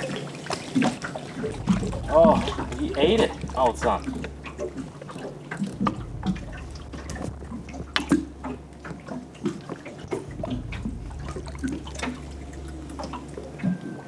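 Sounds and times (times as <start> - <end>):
steady low hum: 0.0 - 14.0
water splashes and plops: 0.0 - 14.0.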